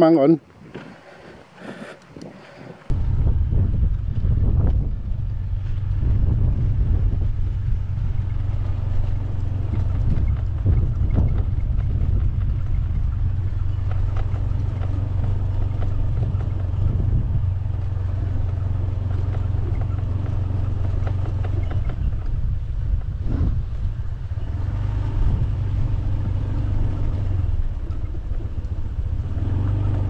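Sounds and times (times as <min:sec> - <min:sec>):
wind rumbling on microphone: 0:00.0 - 0:30.0
small engine humming: 0:00.5 - 0:30.0.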